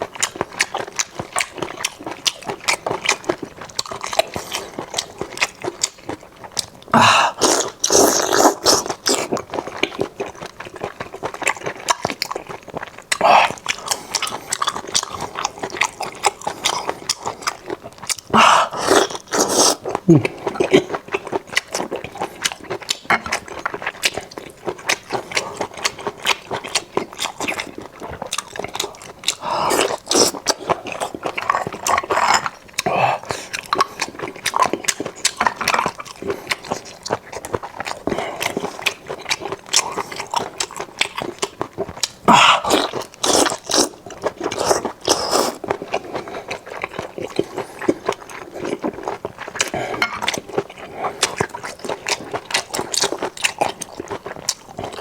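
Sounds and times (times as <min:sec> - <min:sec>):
wet chewing: 0:00.0 - 0:55.0.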